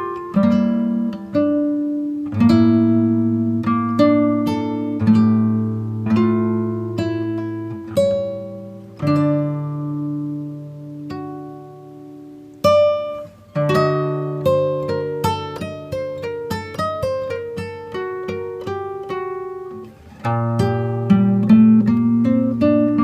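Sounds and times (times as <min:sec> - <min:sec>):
acoustic guitar picked notes: 0:00.0 - 0:23.0.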